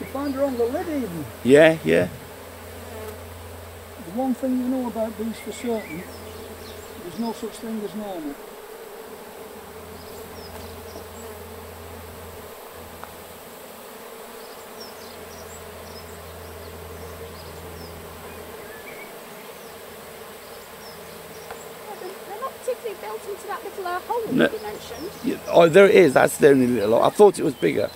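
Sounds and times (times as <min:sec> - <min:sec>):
honey bees buzzing: 0:00.0 - 0:27.9.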